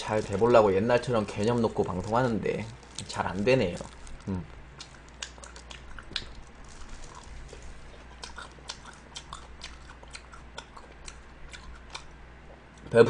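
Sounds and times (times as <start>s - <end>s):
lettuce crunching while chewing: 0.0s - 12.1s.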